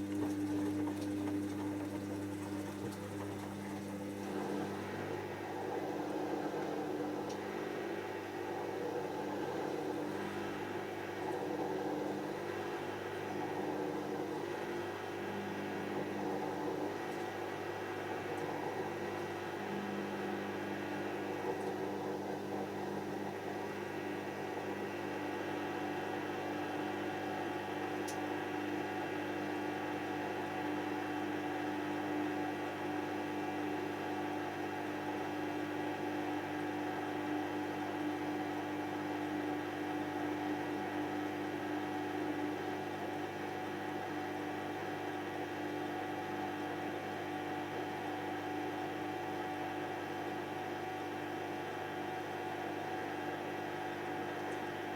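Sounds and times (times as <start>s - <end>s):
washing machine humming: 0.0s - 54.9s.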